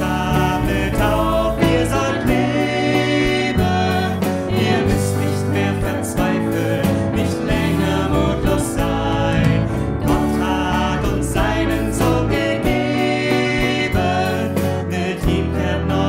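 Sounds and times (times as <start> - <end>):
drums: 0.0 - 16.0
guitar: 0.0 - 16.0
keyboard: 0.0 - 16.0
voices singing a hymn: 0.0 - 16.0.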